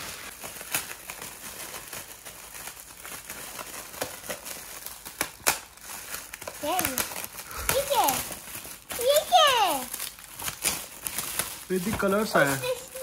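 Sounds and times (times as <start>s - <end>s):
gift wrapping crinkling: 0.0s - 13.0s.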